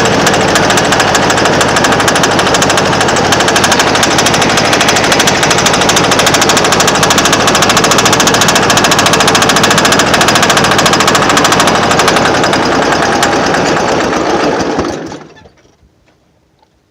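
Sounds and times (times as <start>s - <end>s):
rapid engine knock: 0.0s - 15.3s
mower engine running: 0.0s - 15.7s.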